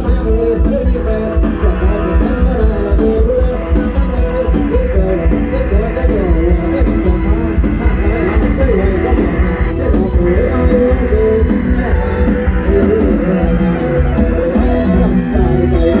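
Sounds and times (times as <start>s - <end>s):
amplified band music: 0.0s - 16.0s
plucked-string lead melody: 0.0s - 16.0s.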